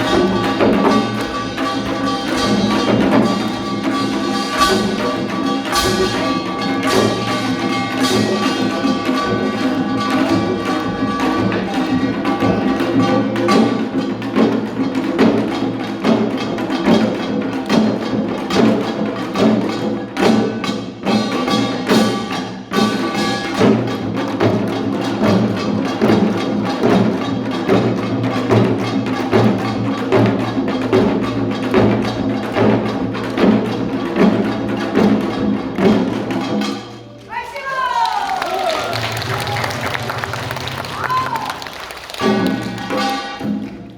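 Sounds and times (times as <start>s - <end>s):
sustained pitched instruments: 0.0s - 37.3s, 38.9s - 43.9s
regular percussive beat: 0.0s - 43.9s.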